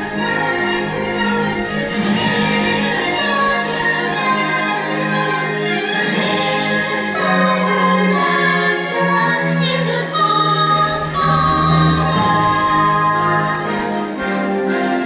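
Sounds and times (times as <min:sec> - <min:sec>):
choir singing: 0:00.0 - 0:15.0
orchestral music: 0:00.0 - 0:15.0.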